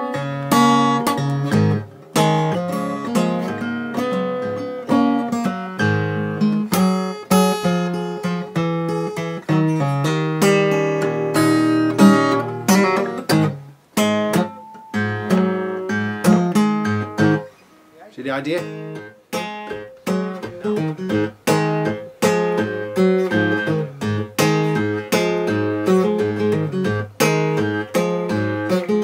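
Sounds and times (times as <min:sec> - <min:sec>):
fingerpicked acoustic guitar shuffle: 0:00.0 - 0:29.0.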